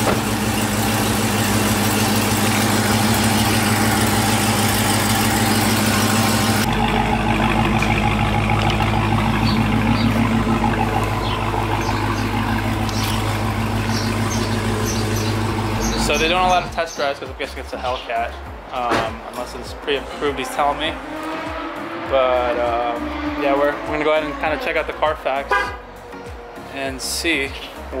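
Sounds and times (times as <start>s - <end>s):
loud car engine idling: 0.0s - 28.0s.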